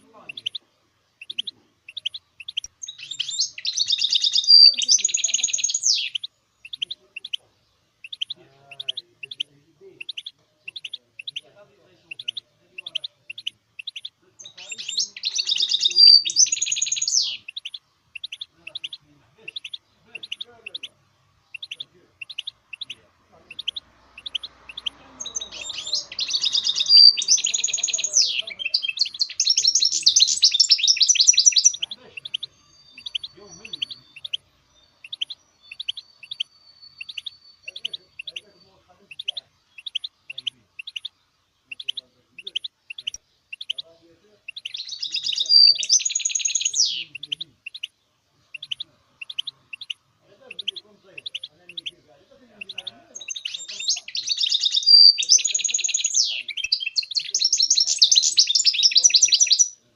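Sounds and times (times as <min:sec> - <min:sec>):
bird chirping: 0:00.0 - 0:59.9
bird twittering song: 0:00.0 - 0:59.9.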